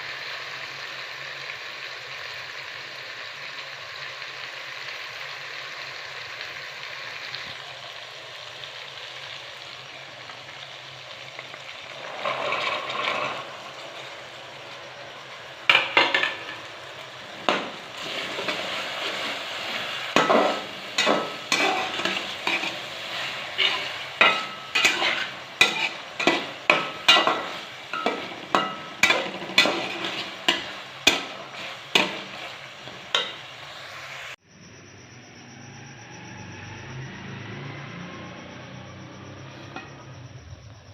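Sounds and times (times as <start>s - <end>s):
food sizzling in hot oil: 0.0s - 34.4s, 35.7s - 40.9s.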